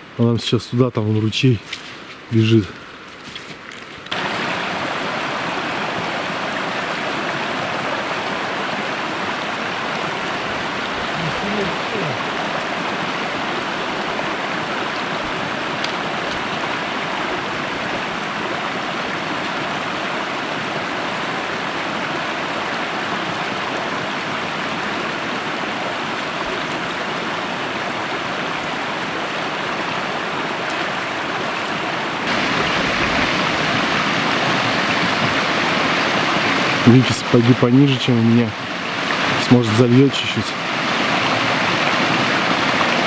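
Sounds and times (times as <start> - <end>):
brook water rushing: 0.0 - 43.0.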